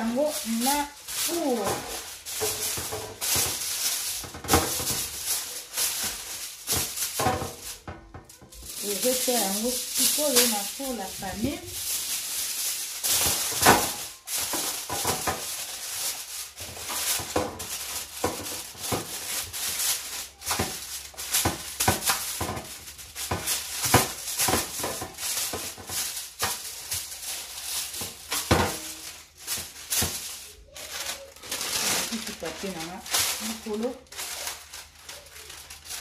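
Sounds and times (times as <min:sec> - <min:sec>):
aluminium foil crinkling: 0:00.0 - 0:36.0.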